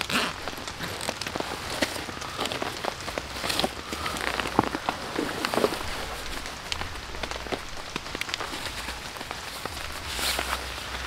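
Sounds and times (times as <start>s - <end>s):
backpack rustling: 0.0s - 11.0s
rain pattering on a tarp: 0.0s - 11.0s.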